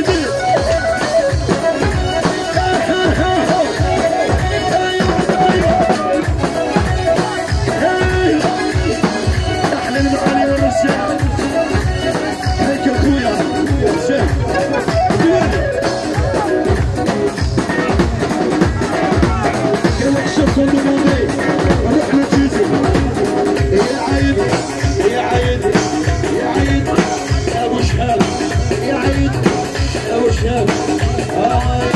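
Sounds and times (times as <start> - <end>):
person singing: 0.0 - 31.9
steady drum beat: 0.0 - 31.9
sustained melody line: 0.0 - 31.9.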